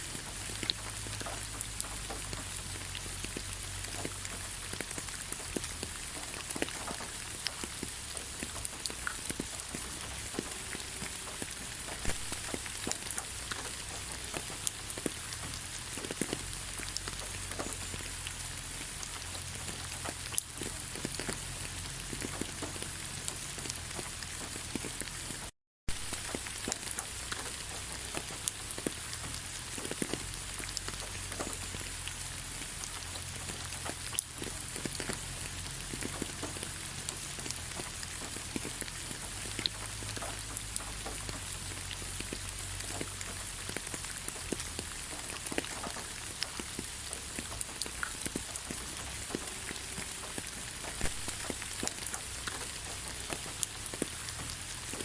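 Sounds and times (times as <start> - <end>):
raindrops ticking: 0.0 - 55.0
steady rain: 0.0 - 55.0.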